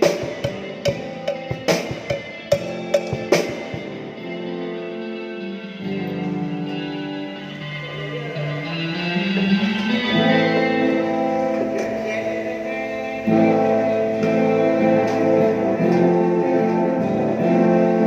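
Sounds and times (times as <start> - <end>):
instrumental guitar music: 0.0 - 18.0.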